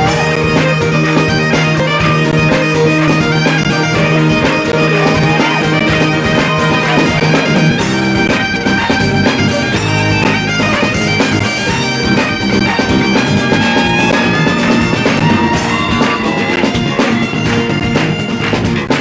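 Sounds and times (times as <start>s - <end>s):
bagpipes playing reels: 0.0s - 19.0s
folk band: 0.0s - 19.0s.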